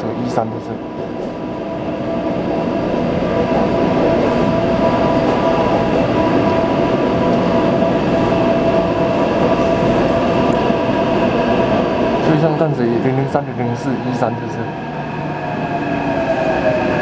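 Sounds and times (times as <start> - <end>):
train drive whine: 0.0 - 17.0
train wheels rumbling on track: 0.0 - 17.0.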